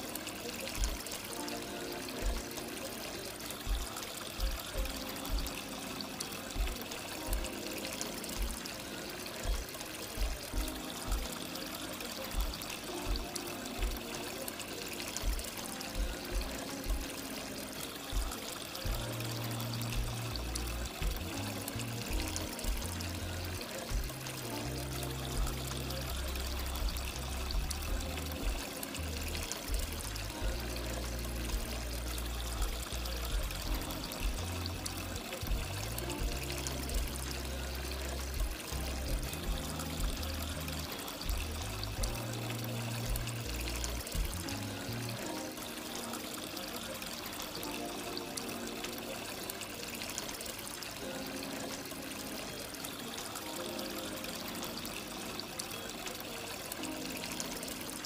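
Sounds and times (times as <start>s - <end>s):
background music: 0.0s - 58.0s
fountain water trickling and splashing: 0.0s - 58.0s.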